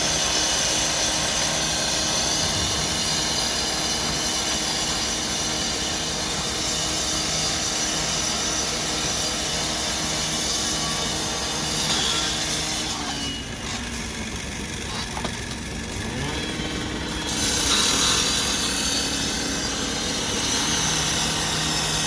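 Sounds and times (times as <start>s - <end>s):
fire engines droning: 0.0s - 22.0s.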